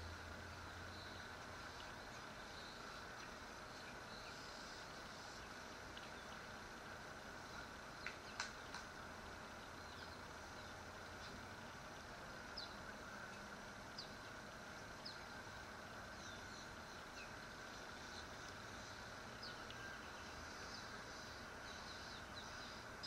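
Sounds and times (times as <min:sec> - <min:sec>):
faint background hiss: 0:00.0 - 0:23.0
small birds chirping: 0:00.0 - 0:23.0.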